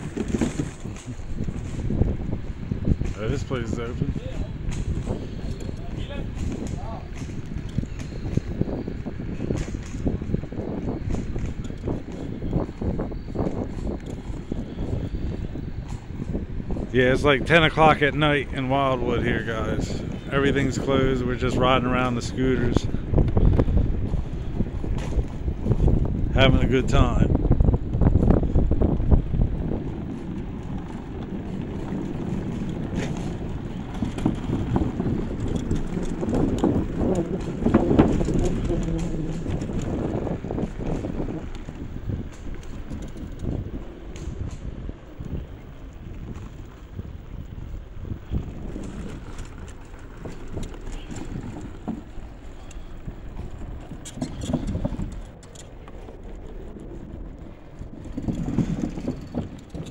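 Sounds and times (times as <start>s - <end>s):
scooter wheels rumbling: 0.0s - 59.9s
wind buffeting microphone: 0.0s - 59.9s.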